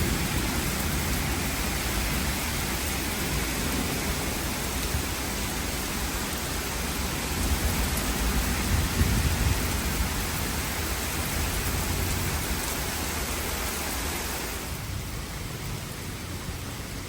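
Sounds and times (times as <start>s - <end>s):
low rumble of thunder: 0.0s - 13.4s, 14.6s - 17.0s
heavy rain: 0.0s - 17.0s.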